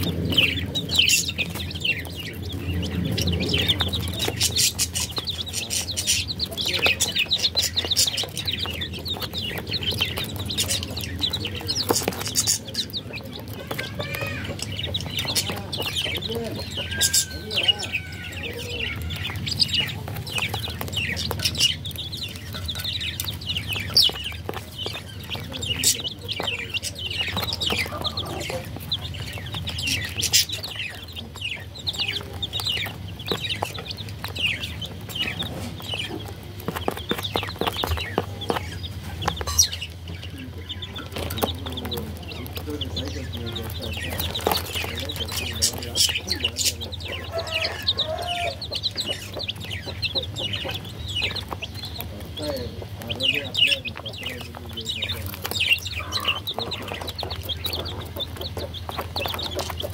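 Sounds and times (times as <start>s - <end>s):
baby chicks peeping: 0.0s - 59.9s.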